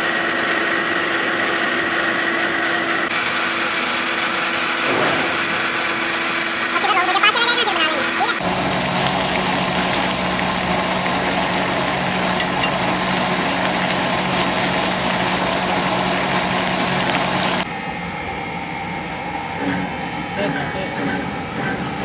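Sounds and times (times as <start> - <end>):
workshop machine humming: 0.0 - 18.0.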